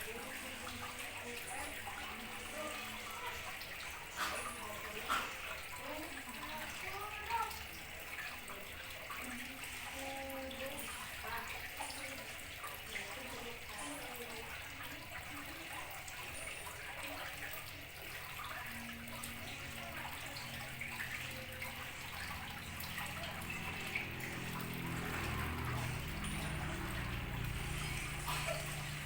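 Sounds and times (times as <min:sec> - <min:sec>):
running water trickling: 0:00.0 - 0:29.0.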